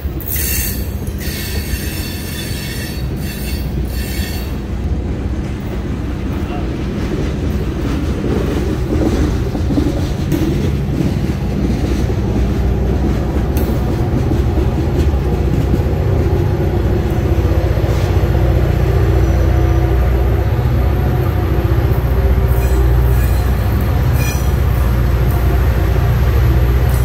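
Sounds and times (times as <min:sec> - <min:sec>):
train clicks and clanks: 0:00.0 - 0:27.0
train wheels rumbling on rail: 0:00.0 - 0:27.0.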